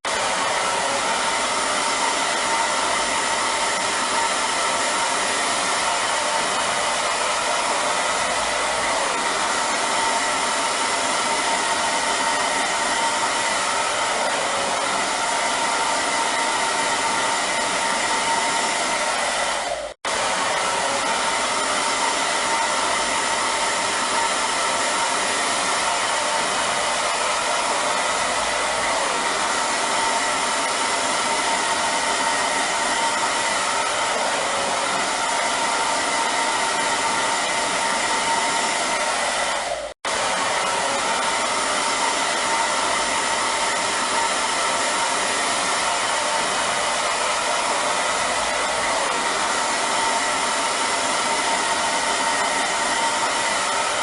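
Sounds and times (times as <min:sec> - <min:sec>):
hair dryer whooshing: 0:00.0 - 0:54.0.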